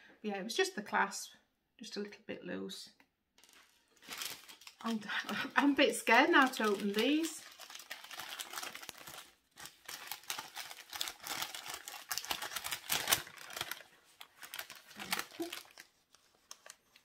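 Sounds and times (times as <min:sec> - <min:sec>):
packaging rustling and crackling: 0:03.4 - 0:17.0.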